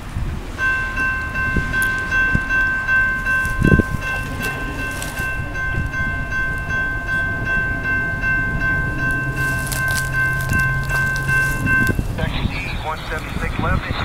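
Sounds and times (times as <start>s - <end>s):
crossing warning bell ringing: 0.0s - 14.0s
low rumble: 0.0s - 14.0s.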